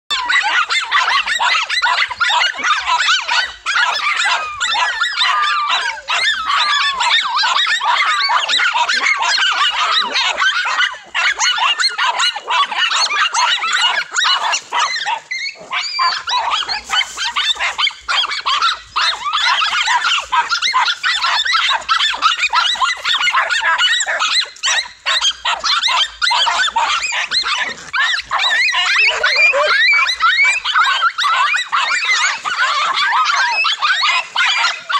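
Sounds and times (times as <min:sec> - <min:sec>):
dogs barking and yapping: 0:00.1 - 0:34.9.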